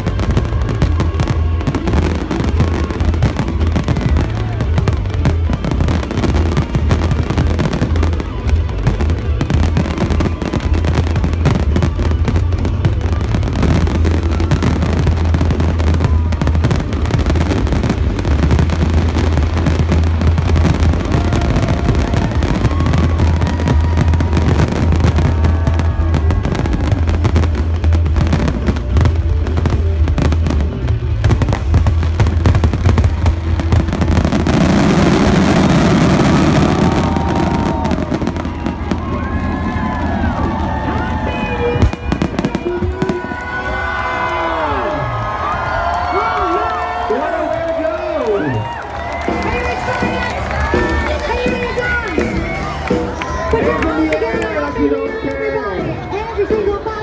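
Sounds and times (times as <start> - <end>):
fireworks bangs and crackle: 0.0 - 57.0.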